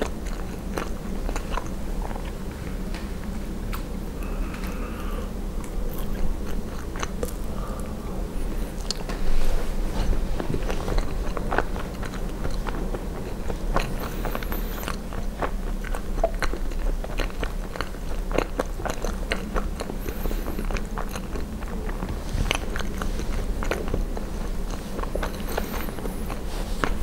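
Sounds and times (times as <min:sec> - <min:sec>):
chewing and biting food: 0:00.0 - 0:27.0.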